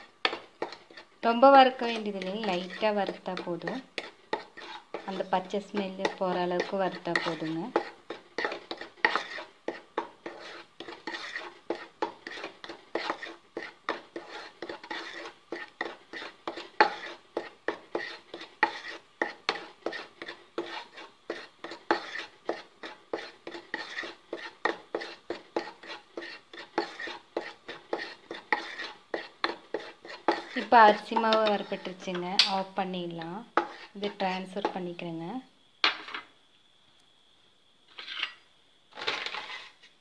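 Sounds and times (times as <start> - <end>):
wooden spatula scraping pan: 0.0 - 35.0, 37.9 - 38.4, 39.0 - 40.0.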